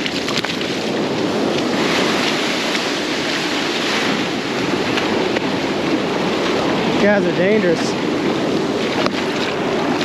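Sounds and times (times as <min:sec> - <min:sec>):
ocean surf washing onto beach: 0:00.0 - 0:10.0.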